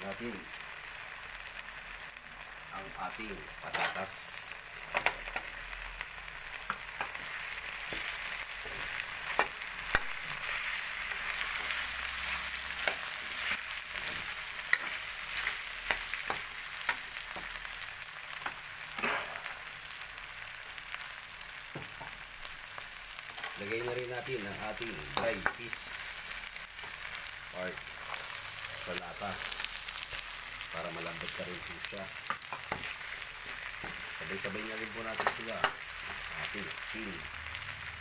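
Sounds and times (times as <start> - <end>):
meat and potatoes sizzling in oil: 0.0 - 38.0.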